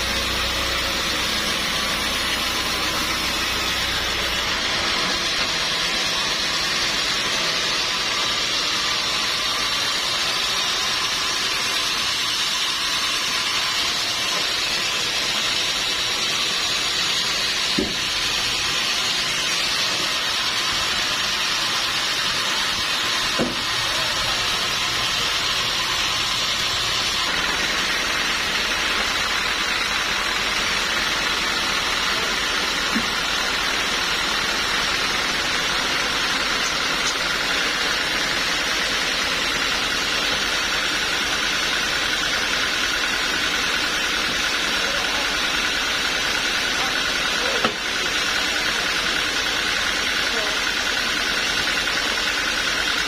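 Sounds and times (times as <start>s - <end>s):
sawmill machinery hissing: 0.0s - 53.0s.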